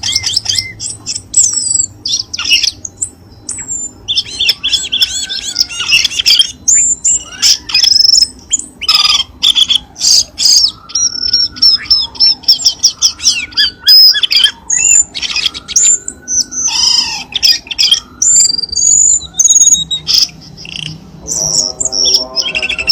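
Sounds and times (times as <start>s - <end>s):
birds chirping and squawking: 0.0s - 22.9s.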